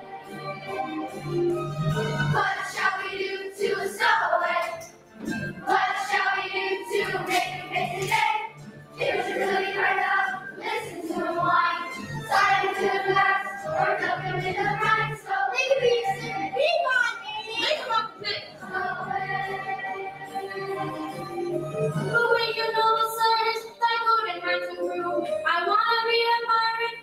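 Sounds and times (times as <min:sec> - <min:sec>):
recorded backing music: 0:00.0 - 0:27.0
children's choir singing: 0:02.0 - 0:25.4.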